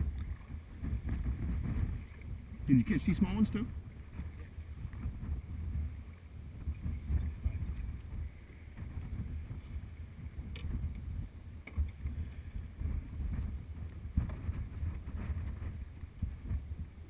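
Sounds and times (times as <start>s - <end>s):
choppy water: 0.0s - 17.0s
wind buffeting microphone: 0.0s - 17.0s.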